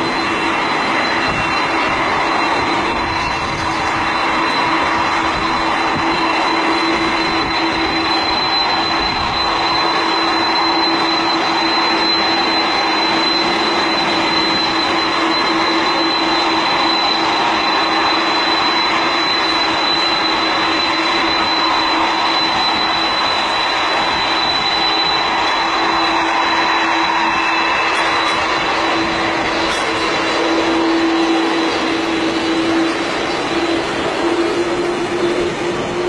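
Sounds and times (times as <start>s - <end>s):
aeroplane engines roaring: 0.0s - 36.0s.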